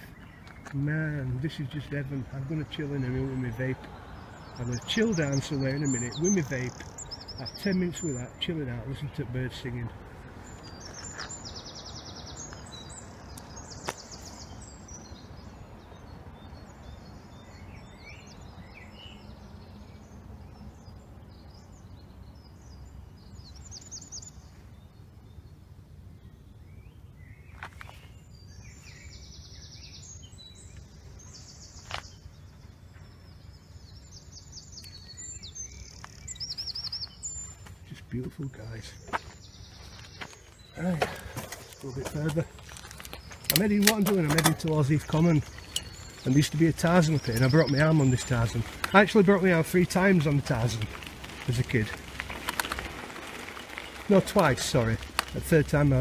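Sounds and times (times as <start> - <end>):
songbirds trilling and chirping: 0.0 - 56.0.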